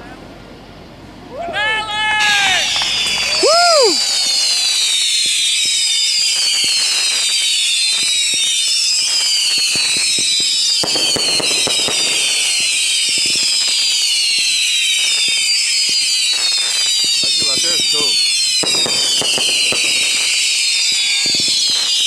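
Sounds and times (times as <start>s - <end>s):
fireworks whistling: 1.6s - 22.0s
fireworks crackling pops: 2.2s - 22.0s.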